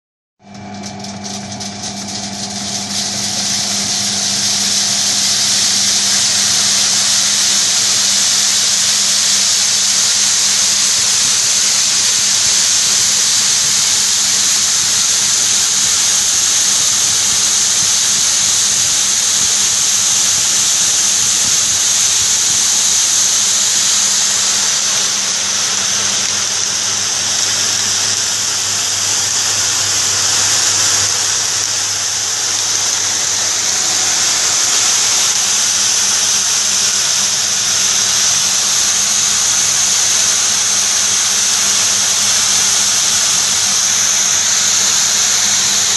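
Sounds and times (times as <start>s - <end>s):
low machine hum: 0.4s - 45.9s
grain rattling on sieves: 0.6s - 45.9s.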